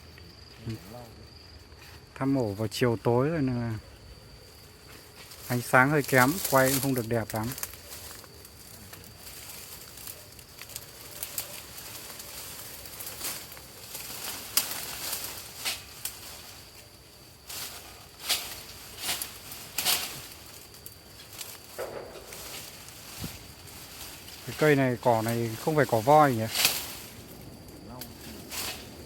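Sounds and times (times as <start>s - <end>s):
grass and brush rustling: 2.7s - 29.0s
stems snapping: 5.2s - 28.9s.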